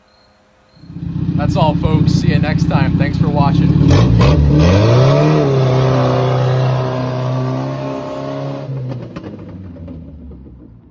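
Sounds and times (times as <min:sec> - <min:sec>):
tires on gravel: 0:00.0 - 0:10.9
car engine revving: 0:00.8 - 0:10.9.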